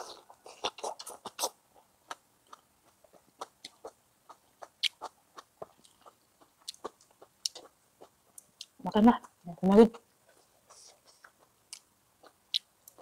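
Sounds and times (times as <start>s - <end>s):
person chewing wetly: 0.0s - 13.0s.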